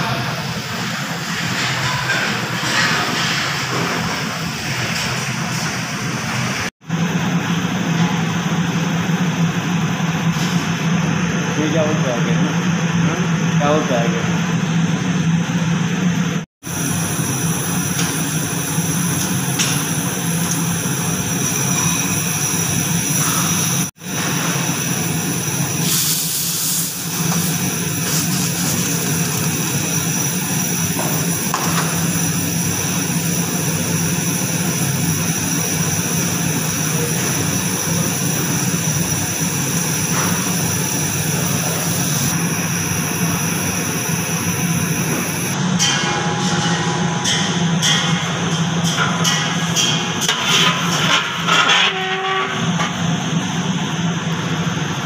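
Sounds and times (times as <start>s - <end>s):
kitchen equipment roaring: 0.0s - 55.0s.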